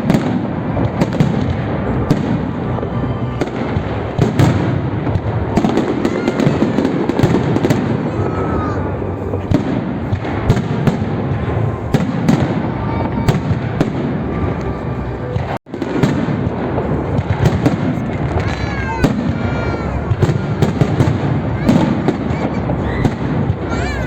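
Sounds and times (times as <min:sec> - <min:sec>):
fireworks bangs: 0:00.0 - 0:24.0
rumble of fireworks bursts: 0:00.0 - 0:24.0.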